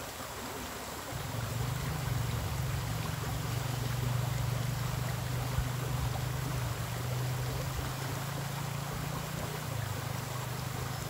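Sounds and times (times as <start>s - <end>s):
river water flowing: 0.0s - 11.0s
low motor hum: 1.1s - 11.0s.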